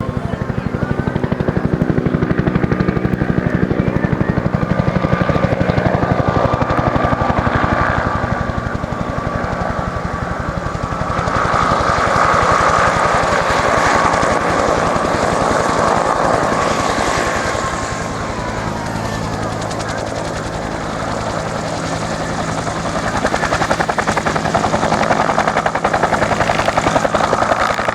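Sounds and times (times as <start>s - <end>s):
helicopter rotor beating: 0.0s - 27.9s
turbine engine whine: 0.0s - 27.9s.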